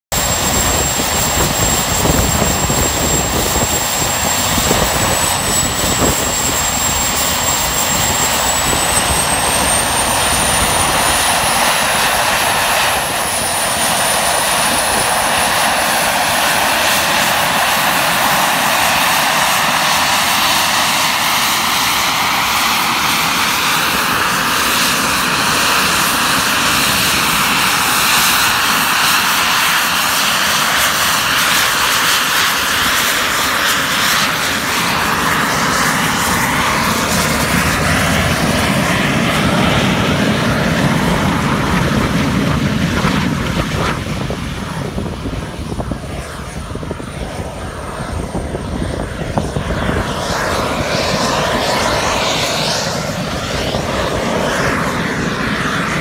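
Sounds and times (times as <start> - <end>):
high-pitched jet whine: 0.1 - 56.0
jet engine roaring: 0.1 - 56.0.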